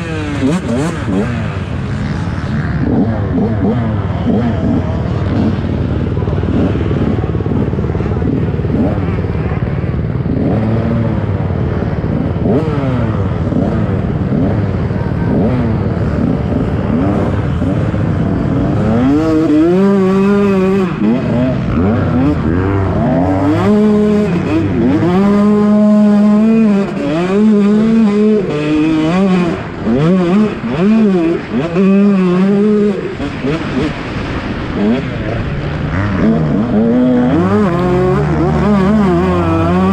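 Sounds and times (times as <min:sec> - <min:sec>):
dirt bike engine revving: 0:00.0 - 0:39.9
low wind rumble: 0:00.0 - 0:39.9.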